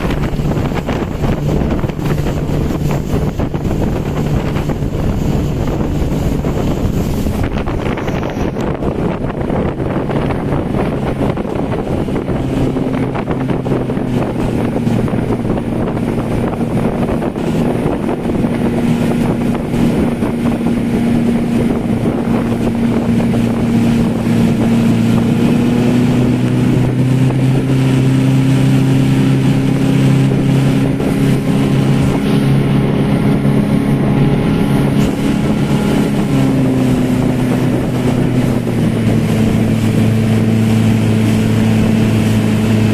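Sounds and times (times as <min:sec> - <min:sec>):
motorboat engine running: 0:00.0 - 0:42.9
wind rushing over microphone: 0:00.0 - 0:42.9.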